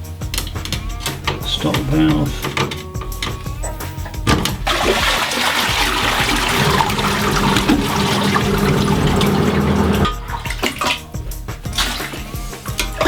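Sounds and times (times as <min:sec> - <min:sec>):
pump motor hum: 0:00.0 - 0:13.0
toilet flush rushing water: 0:00.0 - 0:13.0.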